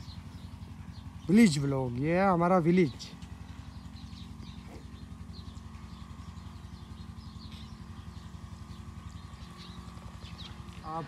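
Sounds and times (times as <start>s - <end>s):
low engine hum: 0.0s - 11.0s
small birds chirping: 0.0s - 11.0s.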